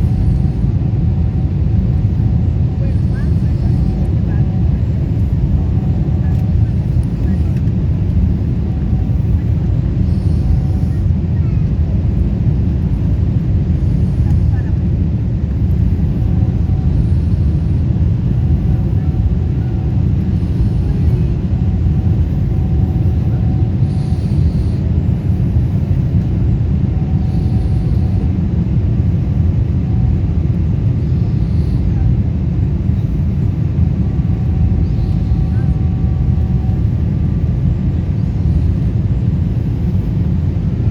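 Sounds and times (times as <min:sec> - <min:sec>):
airplane engines rumbling: 0:00.0 - 0:40.9.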